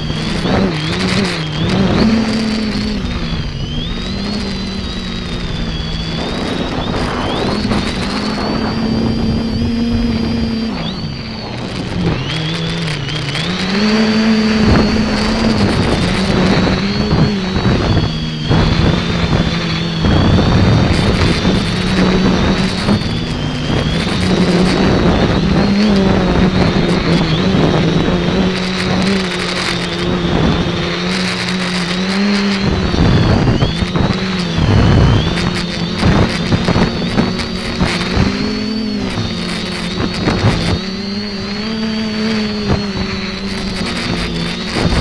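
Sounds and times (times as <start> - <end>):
drone propellers whining: 0.0 - 45.0
wind buffeting microphone: 0.0 - 45.0.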